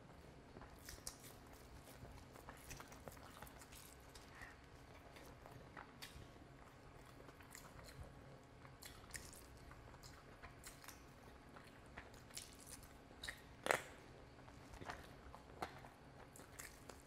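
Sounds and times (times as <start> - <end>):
wet chewing: 0.1 - 17.0.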